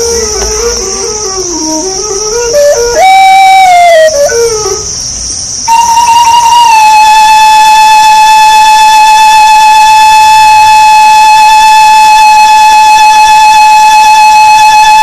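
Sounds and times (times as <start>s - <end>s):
high flute-like note held: 0.0s - 4.8s, 5.7s - 15.0s.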